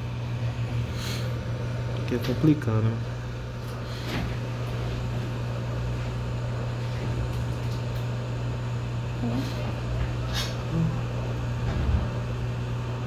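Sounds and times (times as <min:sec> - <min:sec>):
hot-air station hiss and hum: 0:00.0 - 0:13.0.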